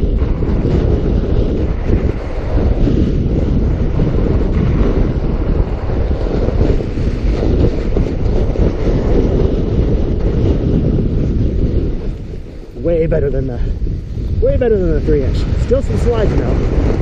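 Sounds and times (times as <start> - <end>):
bike tyres rolling on snow: 0.0 - 17.0
wind buffeting microphone: 0.0 - 17.0.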